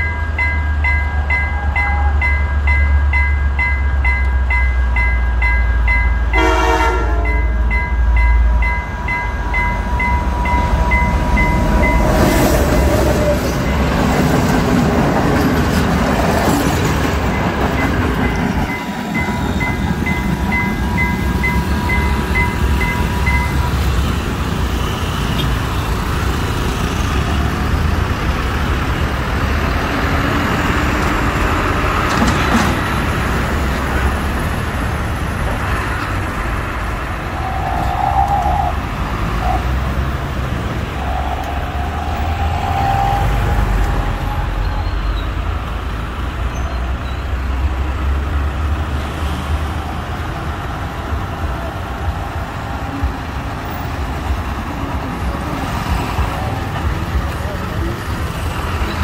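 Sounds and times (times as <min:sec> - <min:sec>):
road traffic crossing railway: 0:00.0 - 0:59.0.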